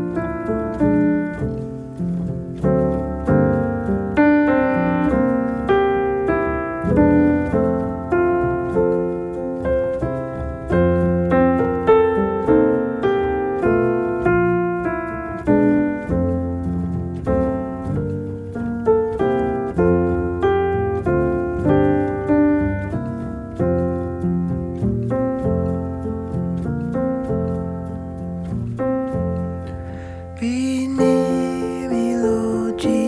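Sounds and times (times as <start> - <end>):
solo piano music: 0.0 - 33.0.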